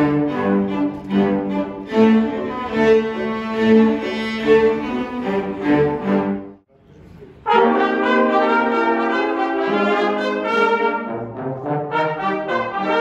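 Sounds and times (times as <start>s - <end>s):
cellos playing bowed notes: 0.0s - 6.7s, 7.5s - 13.0s.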